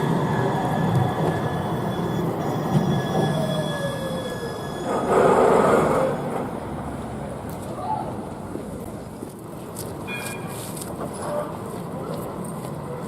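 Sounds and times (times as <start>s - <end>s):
tram running on rails: 0.0s - 13.0s.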